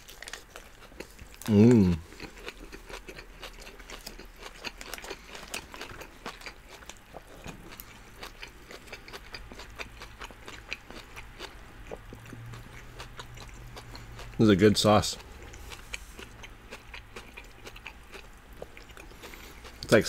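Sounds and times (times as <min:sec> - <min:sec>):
crunching vegetables: 0:00.0 - 0:20.0
people chewing food: 0:00.0 - 0:20.0.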